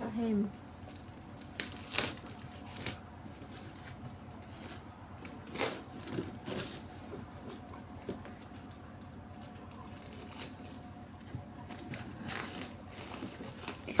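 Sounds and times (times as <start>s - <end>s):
steady low hum: 0.0s - 14.0s
packaging rustling and scraping: 0.7s - 14.0s.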